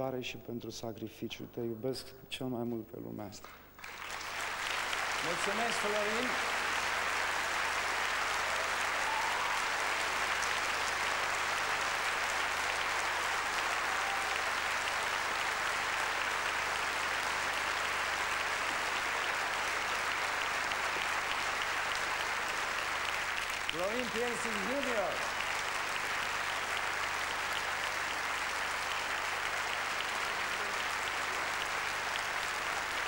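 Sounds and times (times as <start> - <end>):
audience applauding: 3.8 - 33.0.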